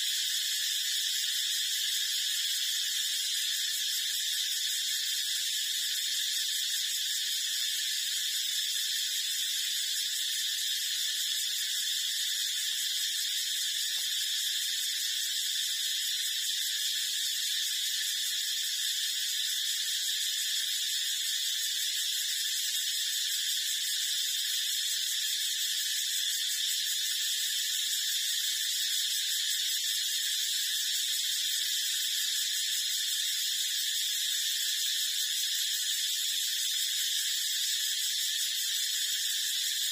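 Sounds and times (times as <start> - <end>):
high-pitched hissing buzz: 0.0 - 39.9.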